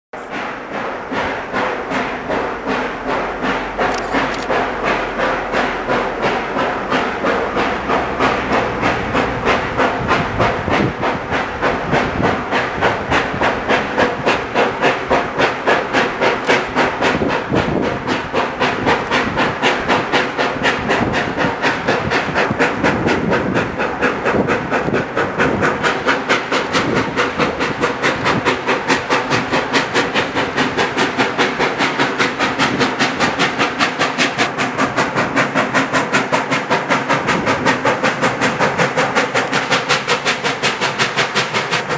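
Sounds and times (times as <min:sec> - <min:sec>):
steam hissing: 0:00.2 - 0:41.9
steam locomotive chuffing: 0:00.2 - 0:41.9.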